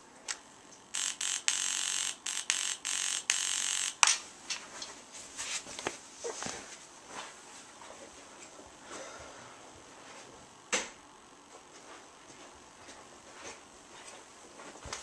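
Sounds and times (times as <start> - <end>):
choppy static hiss: 0.0 - 15.0.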